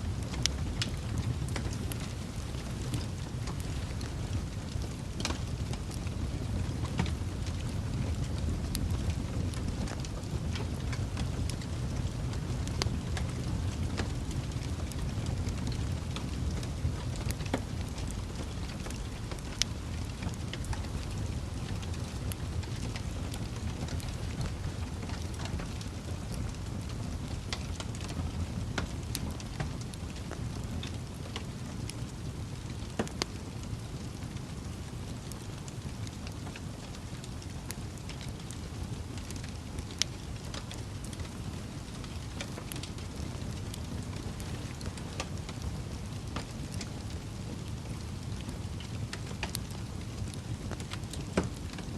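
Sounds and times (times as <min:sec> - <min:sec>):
fire roaring: 0:00.0 - 0:51.9
logs crackling and popping: 0:00.0 - 0:51.9.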